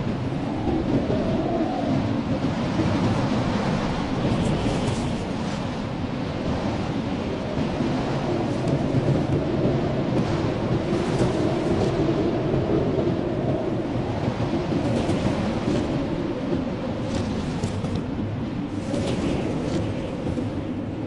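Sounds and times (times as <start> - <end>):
blizzard wind blowing hard: 0.0 - 21.0.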